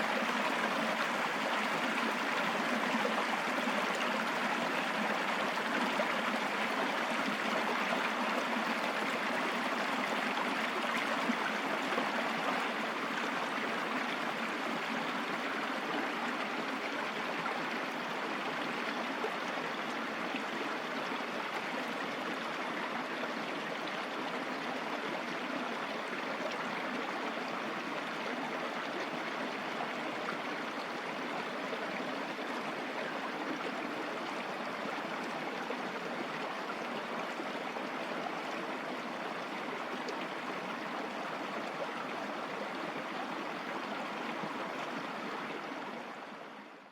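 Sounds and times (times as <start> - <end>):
stream running over rocks: 0.0 - 46.8.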